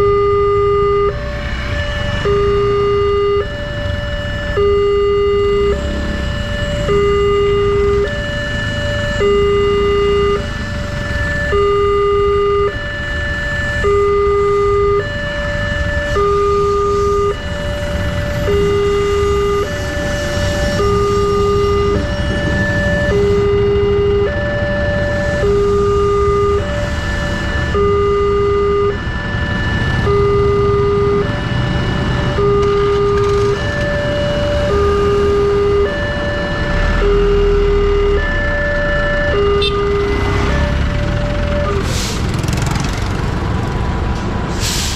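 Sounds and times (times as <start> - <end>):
level crossing two-tone alarm: 0.0 - 43.8.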